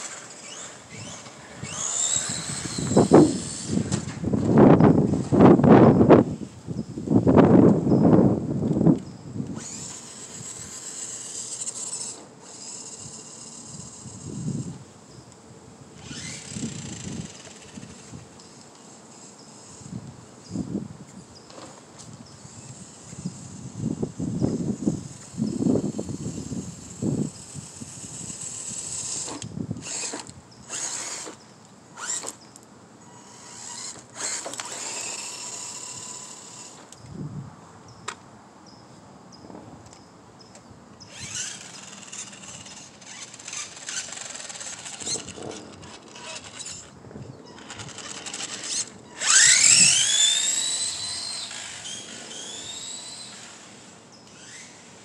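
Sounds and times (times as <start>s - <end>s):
electric motors whining: 0.0s - 37.2s, 40.5s - 55.0s.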